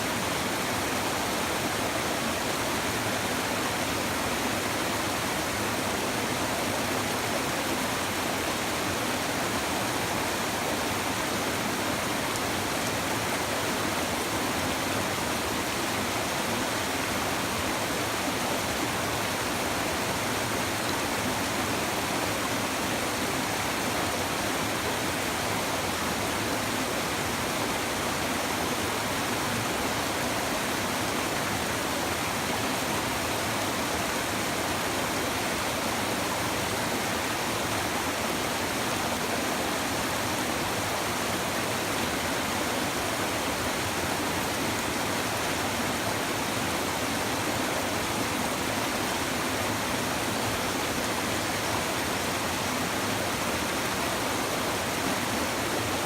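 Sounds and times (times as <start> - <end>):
stream water over rocks: 0.0 - 56.0.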